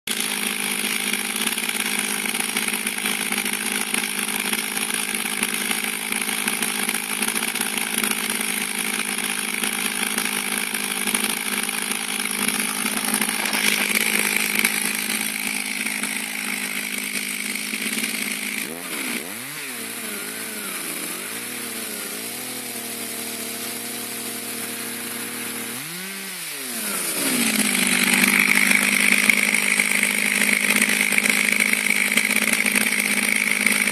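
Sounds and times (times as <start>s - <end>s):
chainsaw revving and idling: 0.1s - 33.9s.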